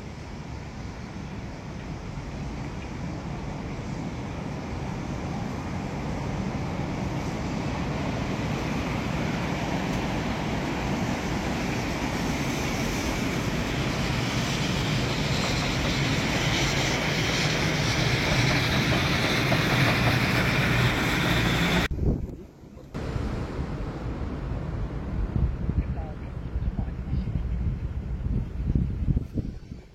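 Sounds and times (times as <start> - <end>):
train running at speed: 0.0 - 21.9, 22.9 - 29.9.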